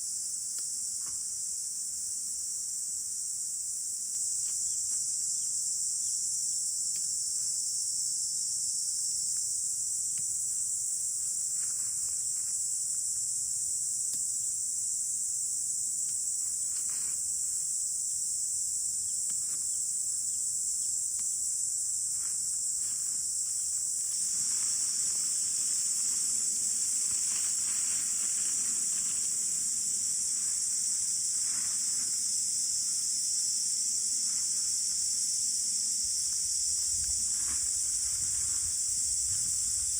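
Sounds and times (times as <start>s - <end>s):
insects chirring: 0.0s - 39.9s
soft hiss: 3.1s - 39.9s.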